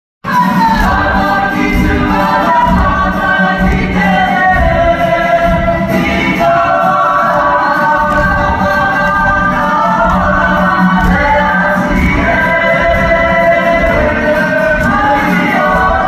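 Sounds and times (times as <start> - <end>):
group singing in harmony: 0.3 - 16.0.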